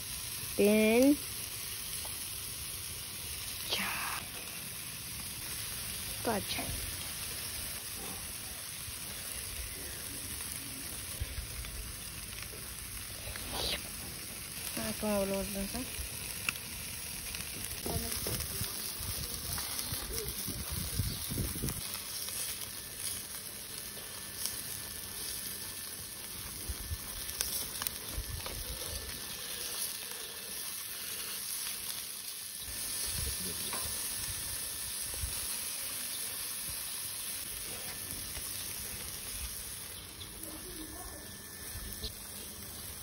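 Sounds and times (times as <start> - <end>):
chicken sizzling over fire: 0.0 - 43.0
fire crackles: 0.0 - 43.0.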